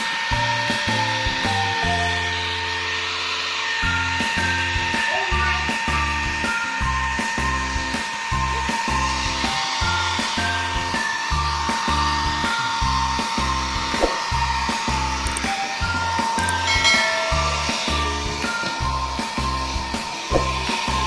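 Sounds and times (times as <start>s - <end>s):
background music with steady beat: 0.0s - 21.0s
hair dryer blowing with whine: 0.0s - 21.0s.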